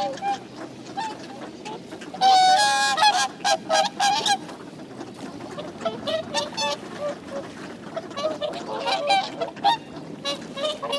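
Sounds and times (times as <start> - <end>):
swans trumpeting and honking: 0.0 - 10.9.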